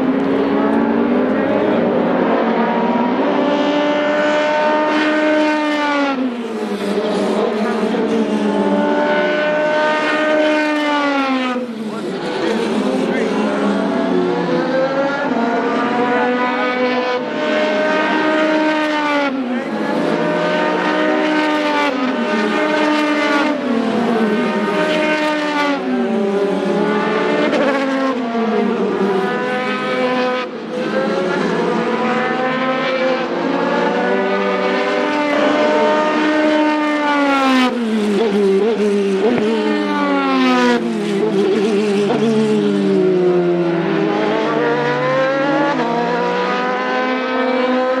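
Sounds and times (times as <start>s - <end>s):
racing cars passing at speed: 0.0s - 48.0s.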